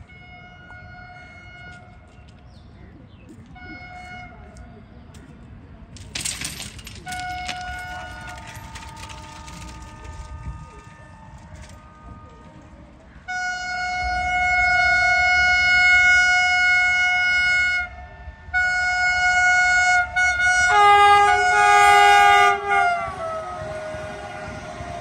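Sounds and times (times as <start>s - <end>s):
train horn blasts: 0.0s - 2.1s, 3.6s - 4.6s, 7.1s - 25.0s.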